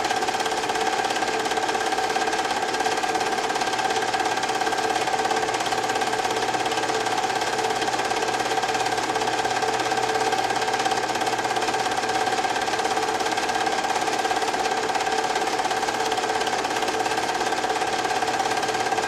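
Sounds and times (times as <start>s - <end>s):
projector mechanical clatter: 0.0s - 19.0s
projector motor whine: 0.0s - 19.0s.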